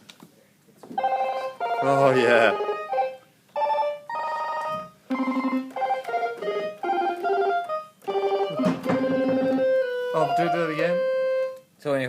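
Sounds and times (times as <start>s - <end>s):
chiptune synthesiser arpeggio: 1.6s - 11.5s.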